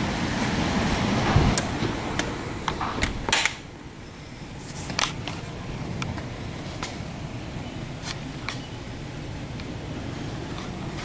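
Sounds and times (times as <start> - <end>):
hurricane wind rumbling: 0.0 - 11.0
rain beating against window: 0.0 - 11.0.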